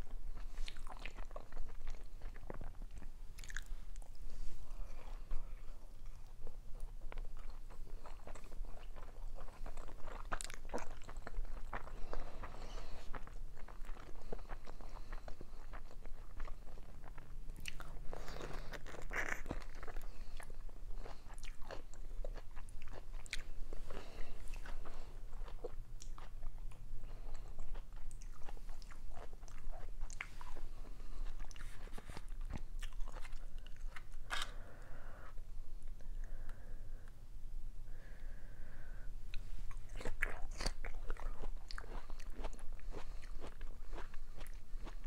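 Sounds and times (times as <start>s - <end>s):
chewing with mouth clicks: 0.0s - 4.2s, 4.9s - 34.6s, 39.3s - 45.0s.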